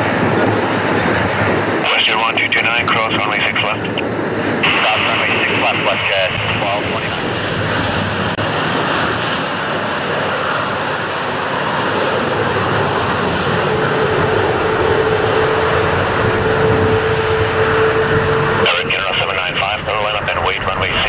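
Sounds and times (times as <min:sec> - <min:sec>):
jet engine roar: 0:00.0 - 0:21.0
steady whine: 0:00.0 - 0:21.0.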